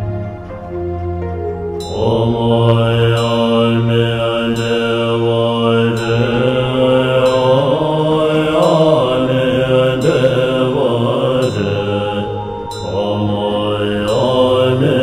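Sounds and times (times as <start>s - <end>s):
steady low drone: 0.0s - 15.0s
voices chanting long tones: 0.0s - 15.0s.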